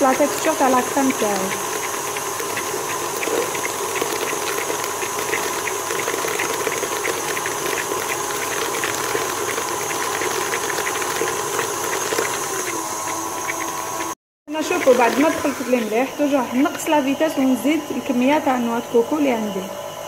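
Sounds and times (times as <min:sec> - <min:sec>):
stand mixer running: 0:00.0 - 0:20.0.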